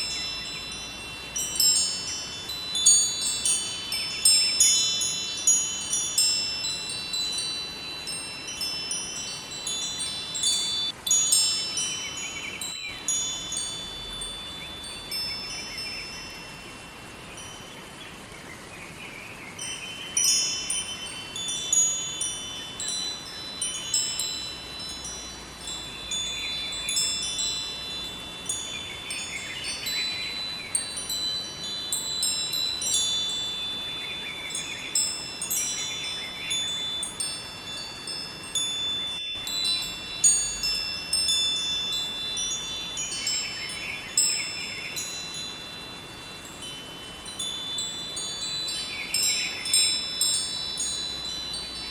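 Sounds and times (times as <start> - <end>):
wind chimes ringing: 0.0 - 18.3, 19.5 - 51.9
running river water: 0.0 - 51.9.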